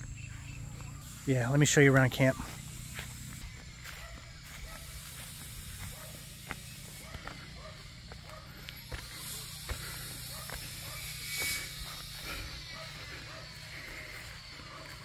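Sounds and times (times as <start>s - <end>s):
footsteps on grass: 0.7s - 15.0s.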